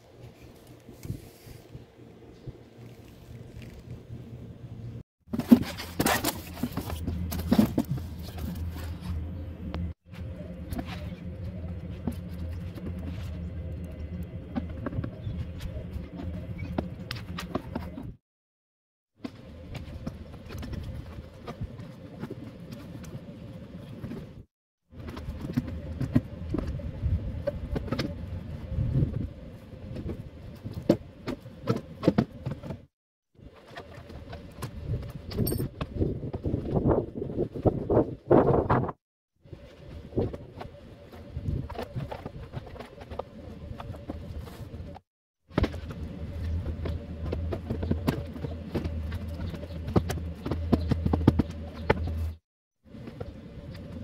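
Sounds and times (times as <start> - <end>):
steady low hum: 0.0 - 18.2, 19.2 - 38.9, 39.5 - 54.0.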